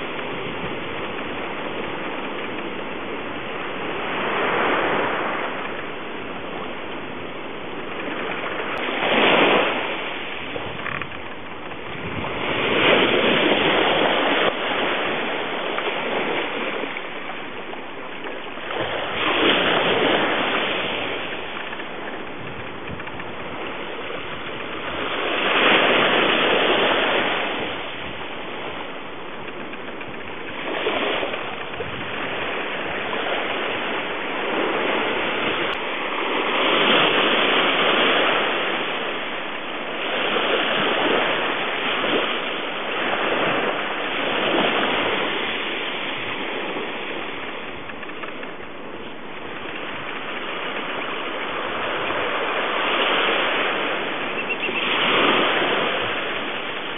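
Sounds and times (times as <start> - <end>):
ocean surf washing onto beach: 0.0 - 56.9.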